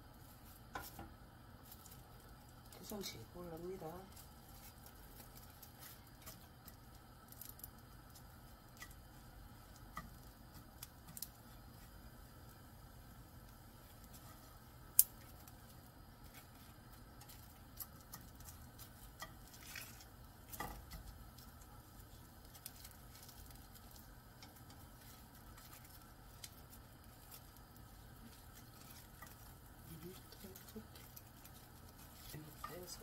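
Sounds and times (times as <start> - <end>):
faint low hum: 0.0 - 33.0
seaweed sheets crackling: 0.0 - 33.0.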